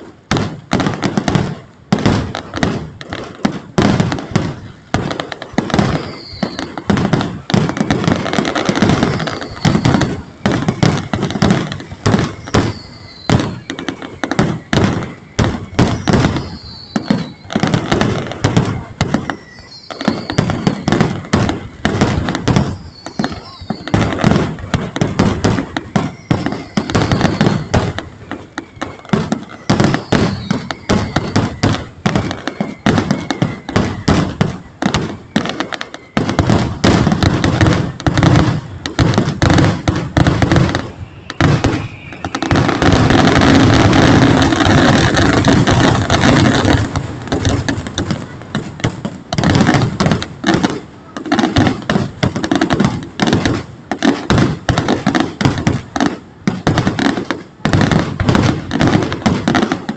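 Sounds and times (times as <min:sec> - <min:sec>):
falling fireworks whistles: 0:00.0 - 0:59.9
fireworks bangs and crackles: 0:00.0 - 0:59.9.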